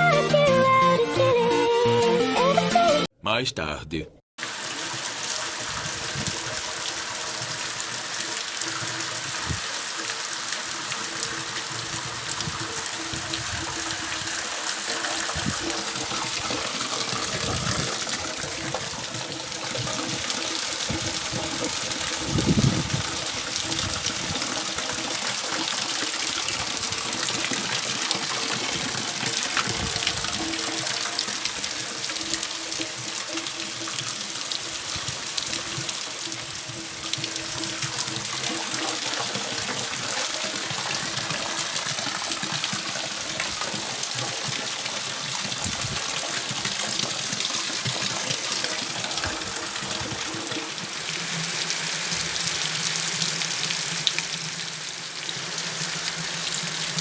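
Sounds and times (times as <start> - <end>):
water running: 4.4 - 57.0.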